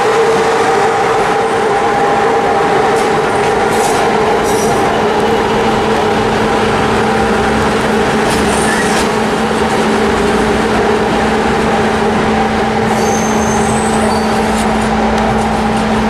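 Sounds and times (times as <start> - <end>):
electric locomotive humming: 0.0 - 16.0.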